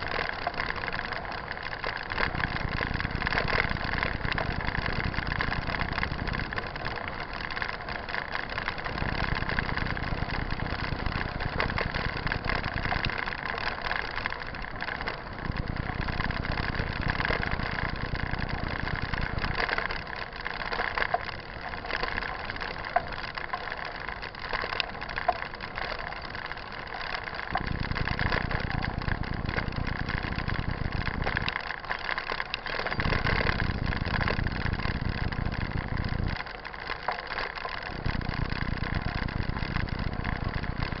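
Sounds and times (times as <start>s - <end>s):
wind rumble on microphone: 0.0s - 31.6s, 32.6s - 36.4s, 37.9s - 41.0s
bike tyres crackling on dirt trail: 0.0s - 41.0s.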